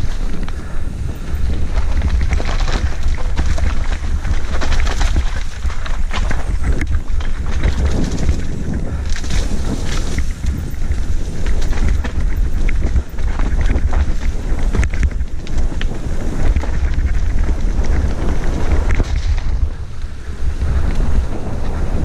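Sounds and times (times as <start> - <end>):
bike rattling: 0.0 - 22.0
tyres crunching on dirt and stones: 0.0 - 22.0
wind buffeting microphone: 0.0 - 22.0.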